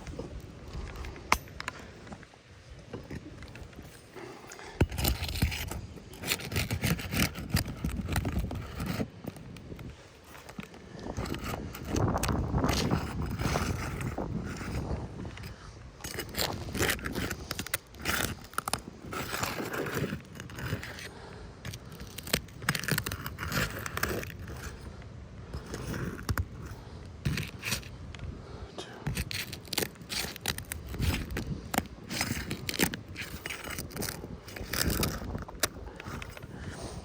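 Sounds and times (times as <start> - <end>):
shingles scraped with pry tool: 3.1 - 28.0, 28.8 - 37.0.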